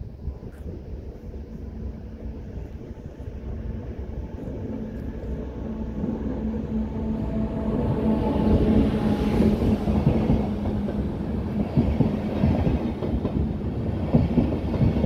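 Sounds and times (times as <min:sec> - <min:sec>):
locomotive hum: 0:00.0 - 0:15.0
train approaching rumble: 0:00.0 - 0:15.0.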